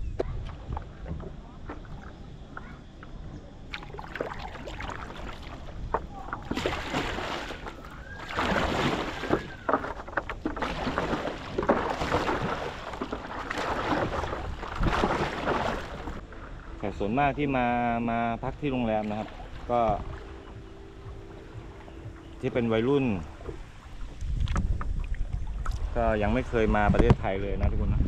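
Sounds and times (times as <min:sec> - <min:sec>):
water splashing against paddleboard: 0:00.0 - 0:27.3.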